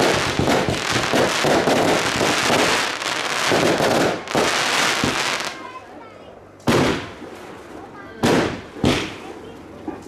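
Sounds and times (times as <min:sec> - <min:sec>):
fireworks popping and crackling: 0:00.0 - 0:05.7, 0:06.6 - 0:10.0.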